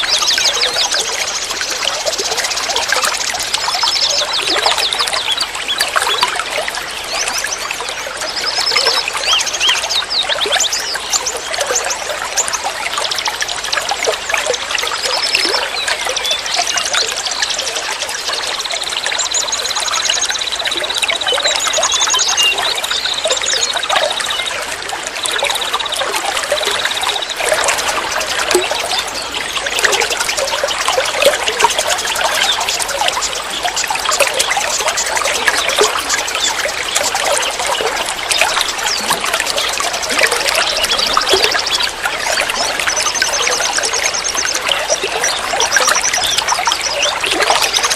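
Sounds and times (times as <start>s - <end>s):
water trickling and flowing: 0.0s - 47.9s.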